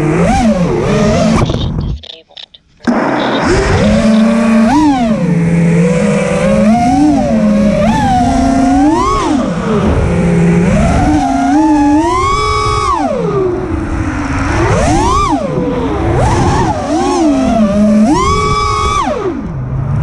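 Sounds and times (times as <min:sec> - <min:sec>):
quadcopter motors whining: 0:02.8 - 0:19.5.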